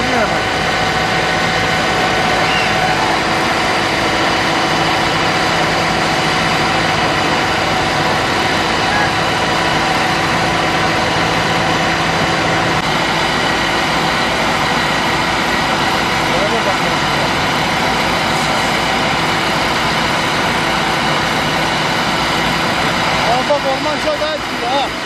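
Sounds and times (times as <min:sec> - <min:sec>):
heavy engine idling: 0:00.0 - 0:25.0.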